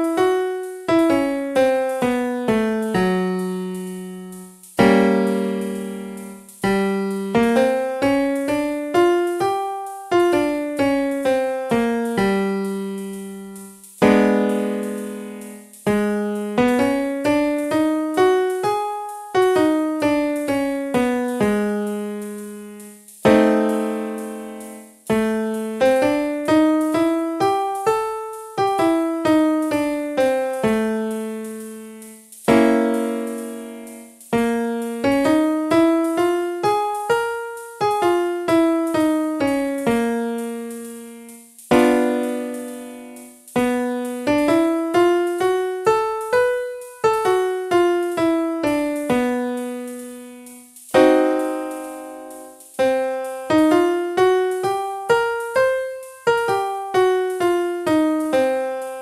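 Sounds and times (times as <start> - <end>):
piano playing scales: 0.0 - 59.0.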